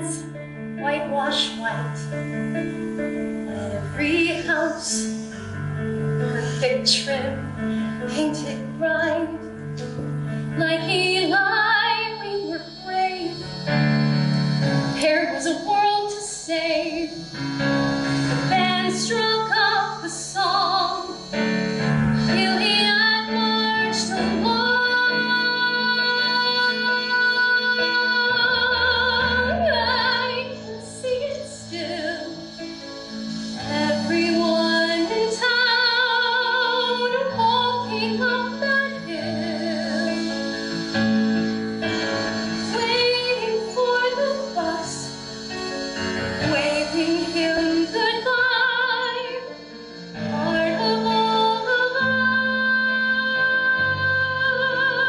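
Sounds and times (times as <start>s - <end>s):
woman singing a ballad: 0.0s - 5.3s, 6.2s - 9.6s, 10.5s - 13.8s, 15.0s - 17.3s, 18.4s - 21.5s, 22.2s - 32.8s, 33.6s - 40.6s, 42.6s - 45.3s, 46.4s - 55.0s
instrumental accompaniment: 0.0s - 55.0s.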